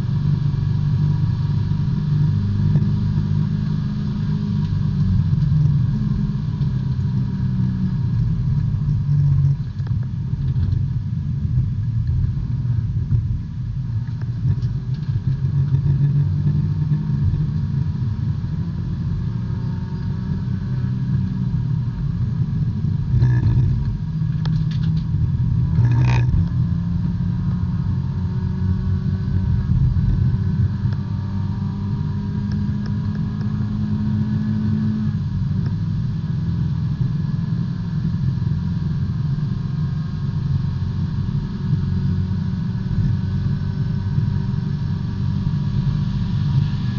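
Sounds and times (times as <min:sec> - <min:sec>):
race car engine from inside: 0:00.0 - 0:46.9.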